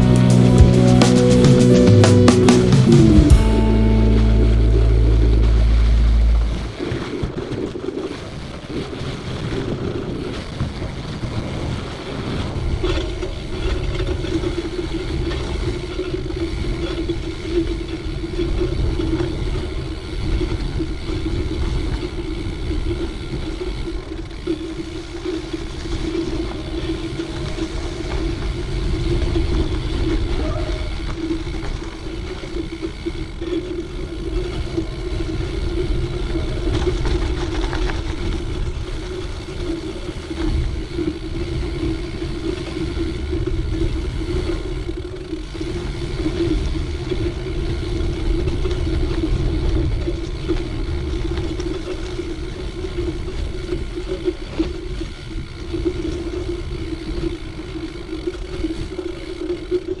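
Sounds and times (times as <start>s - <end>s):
bike tyre hum: 0.0s - 60.0s
low rumble of bike on ground: 0.0s - 60.0s.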